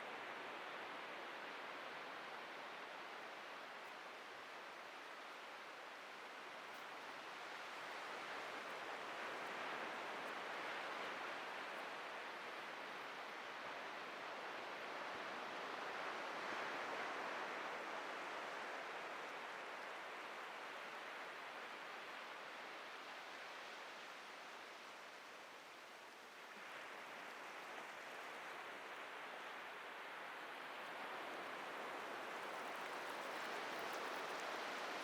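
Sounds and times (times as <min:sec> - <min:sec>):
waves breaking on a beach: 0:00.0 - 0:35.0.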